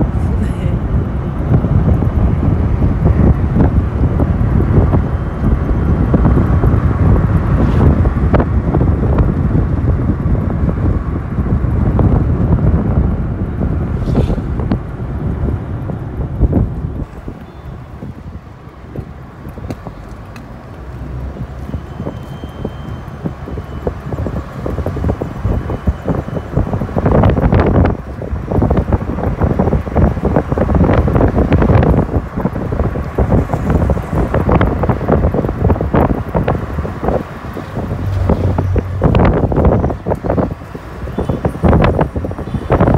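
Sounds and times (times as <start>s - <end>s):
motorcycle and road noise: 0.0s - 42.9s
wind buffeting microphone: 0.0s - 42.9s.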